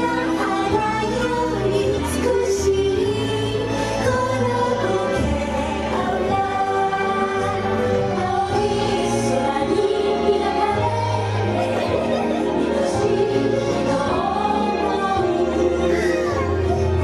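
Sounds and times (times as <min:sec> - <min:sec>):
parade music over loudspeakers: 0:00.0 - 0:17.0
voices singing long notes: 0:00.0 - 0:17.0.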